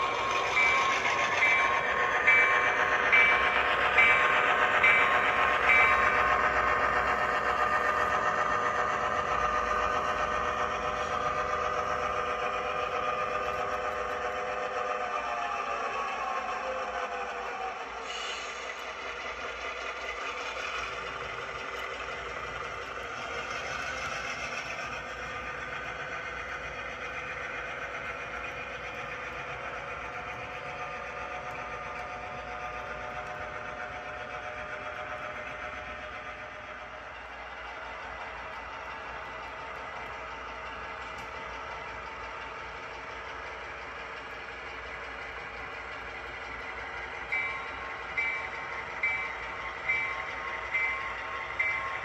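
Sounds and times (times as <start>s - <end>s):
model train motor humming: 0.0s - 52.0s
wheels rolling on rails: 0.0s - 52.0s.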